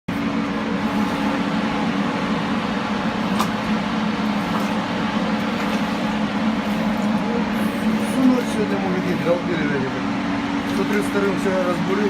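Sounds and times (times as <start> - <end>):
drilling rig engine drone: 0.1 - 12.0.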